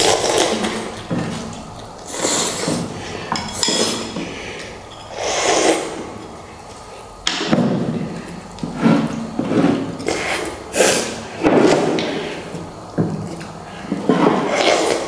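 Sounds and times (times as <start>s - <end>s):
people slurping noodles: 0.0s - 6.9s, 8.1s - 12.6s, 13.3s - 15.0s.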